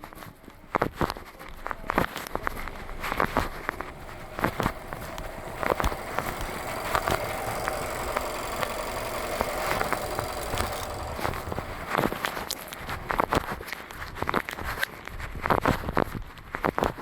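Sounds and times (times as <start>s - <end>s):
car engine idling: 0.6s - 14.4s
sharp clicks and knocks: 0.7s - 14.6s.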